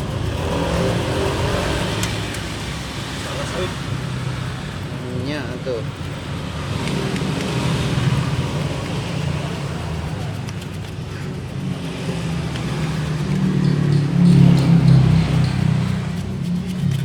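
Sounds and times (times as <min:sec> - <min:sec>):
engine running with fluttering hum: 0:00.0 - 0:17.0.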